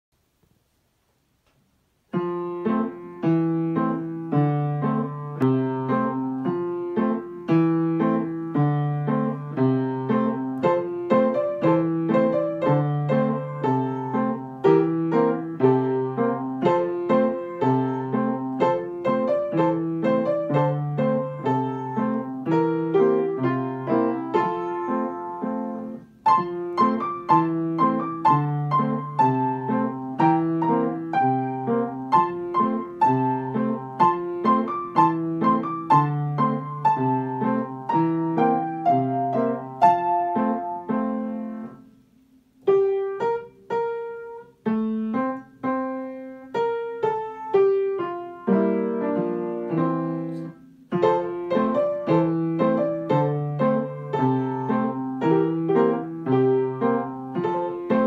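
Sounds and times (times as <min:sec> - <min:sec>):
piano duet: 0:01.9 - 0:58.0.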